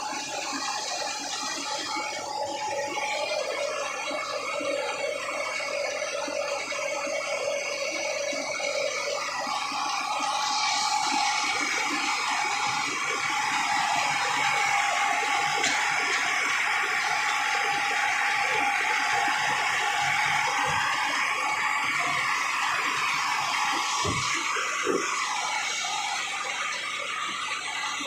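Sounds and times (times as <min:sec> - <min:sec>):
rice mill machine rattling: 0:00.0 - 0:28.0.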